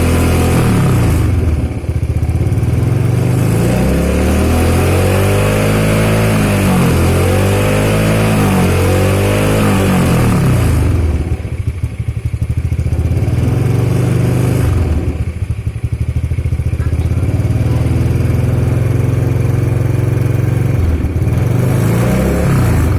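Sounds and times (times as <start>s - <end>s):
deep choppy exhaust rumble: 0.0s - 22.9s
motorcycle engine revving: 0.0s - 22.9s.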